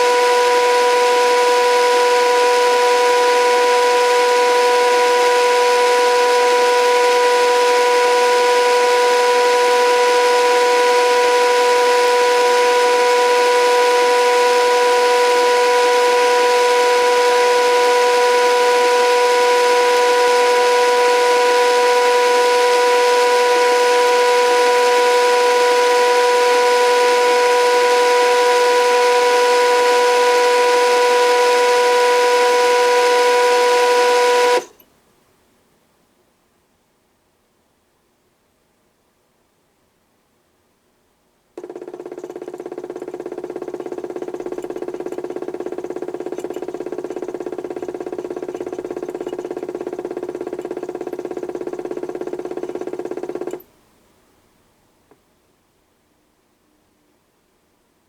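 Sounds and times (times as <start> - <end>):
electric motor whining: 0.0 - 34.8, 41.6 - 53.6.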